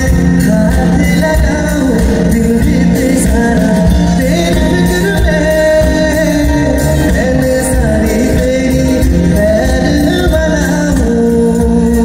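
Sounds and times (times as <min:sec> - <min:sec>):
live band music: 0:00.0 - 0:12.0
man singing: 0:00.0 - 0:12.0.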